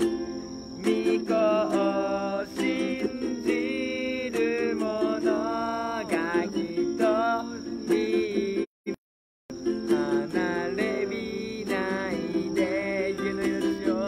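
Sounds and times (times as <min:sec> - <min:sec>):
strummed ukulele: 0:00.0 - 0:14.0.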